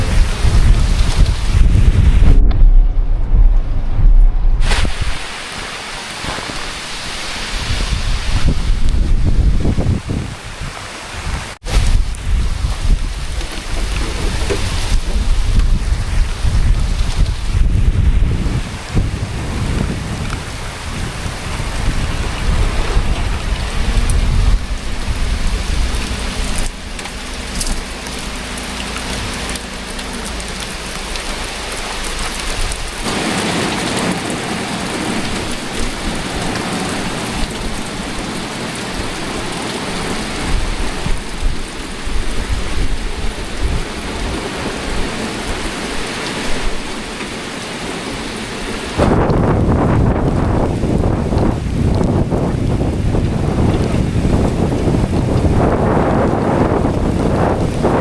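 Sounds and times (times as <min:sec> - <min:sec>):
low thunder rumble: 0:00.0 - 0:48.0, 0:48.6 - 0:58.0
heavy rain pouring: 0:00.0 - 0:58.0.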